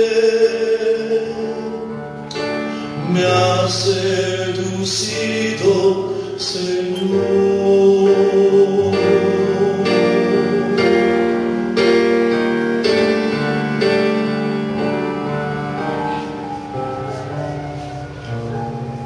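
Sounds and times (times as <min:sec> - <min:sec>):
piano-like keyboard chords: 0:00.0 - 0:19.0.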